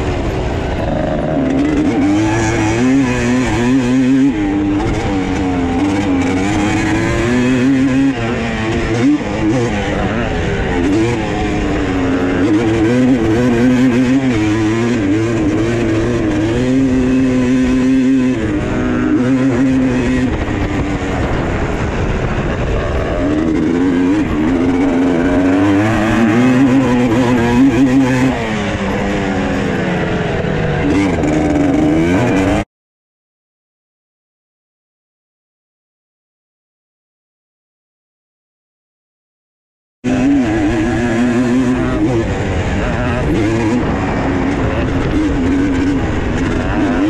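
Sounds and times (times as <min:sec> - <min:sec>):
quad engines revving: 0:00.0 - 0:32.6, 0:40.1 - 0:47.0.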